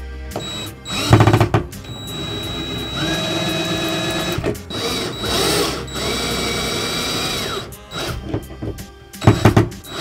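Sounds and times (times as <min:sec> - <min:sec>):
cordless drill motor whining: 0:00.3 - 0:08.4, 0:09.2 - 0:10.0.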